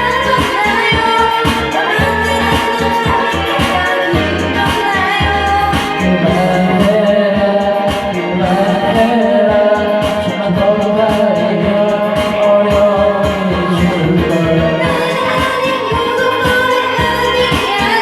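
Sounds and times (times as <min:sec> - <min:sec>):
backing track with steady beat: 0:00.0 - 0:18.0
person singing pop song: 0:00.0 - 0:18.0.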